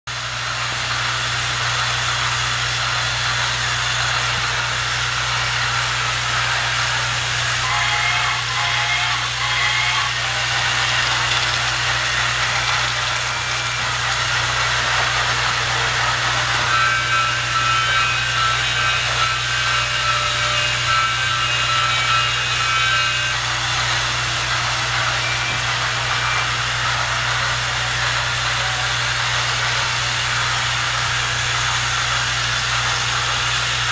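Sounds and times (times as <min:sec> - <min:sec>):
toy train motor whirring: 0:00.1 - 0:33.9.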